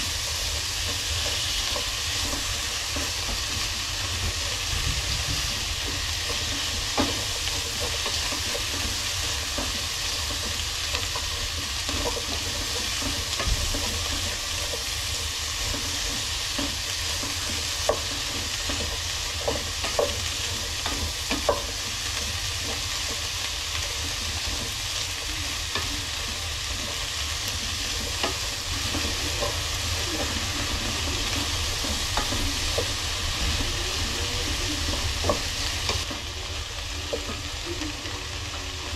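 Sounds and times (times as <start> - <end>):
utensil clicking against pan: 0.0 - 38.9
vegetables sizzling in a pan: 0.0 - 38.9.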